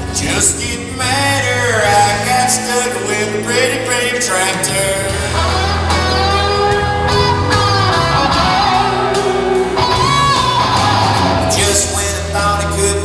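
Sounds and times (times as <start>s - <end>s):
country music with guitar: 0.0s - 13.0s.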